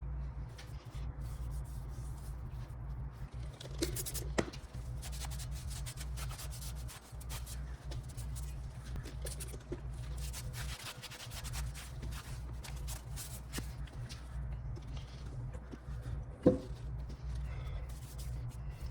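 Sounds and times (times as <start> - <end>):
steady low hum: 0.0 - 18.9
rubbing and scraping: 0.5 - 18.9.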